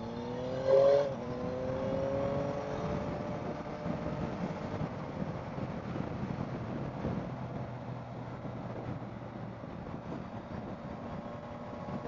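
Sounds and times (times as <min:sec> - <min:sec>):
motorcycle engine accelerating: 0:00.0 - 0:12.0
wind noise: 0:00.0 - 0:12.0.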